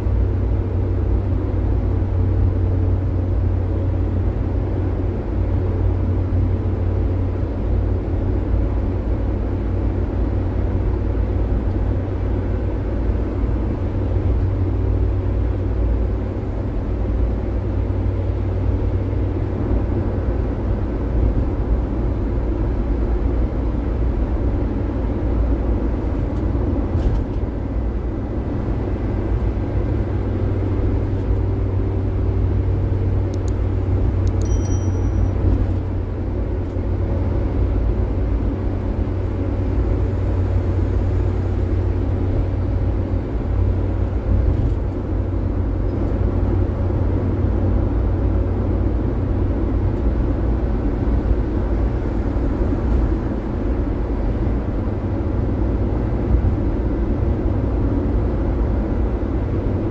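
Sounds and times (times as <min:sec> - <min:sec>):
engine drone: 0:00.0 - 0:59.9.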